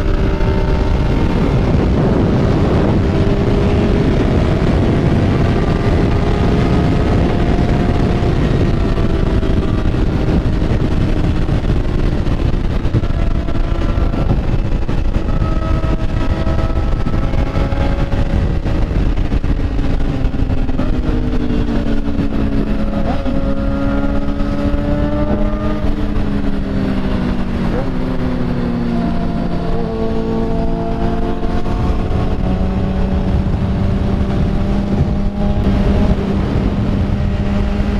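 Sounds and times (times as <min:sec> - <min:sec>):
motorcycle engine running: 0:00.0 - 0:37.9
wind and road noise: 0:00.0 - 0:37.9.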